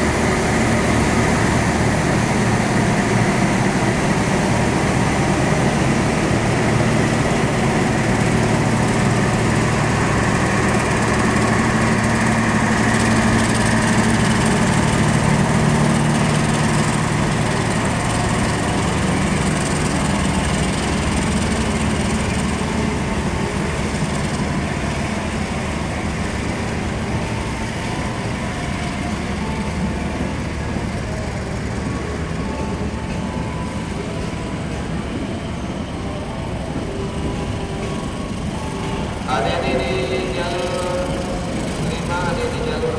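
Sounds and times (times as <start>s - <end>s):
locomotive engine running: 0.0s - 42.9s.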